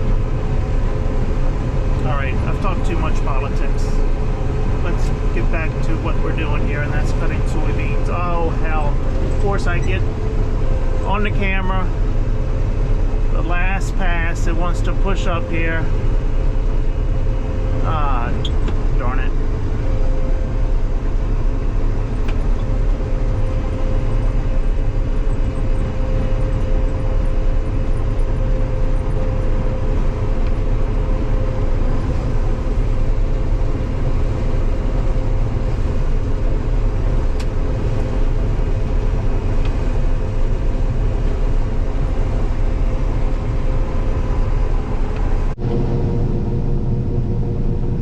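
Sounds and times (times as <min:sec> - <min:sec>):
combine harvester droning: 0:00.0 - 0:48.0
steady machine whine: 0:00.0 - 0:48.0.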